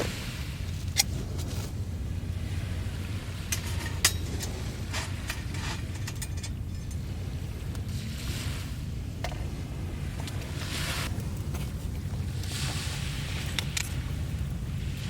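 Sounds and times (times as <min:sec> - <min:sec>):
surf: 0:00.0 - 0:15.0
wind: 0:00.0 - 0:15.0.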